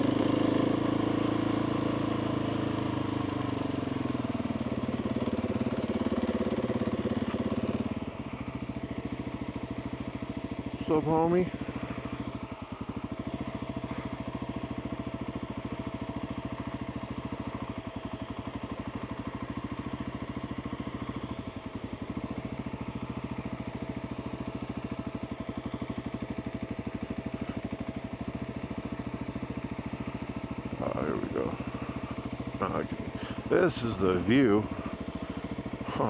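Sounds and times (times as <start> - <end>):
motorcycle engine at low revs: 0.0 - 36.0.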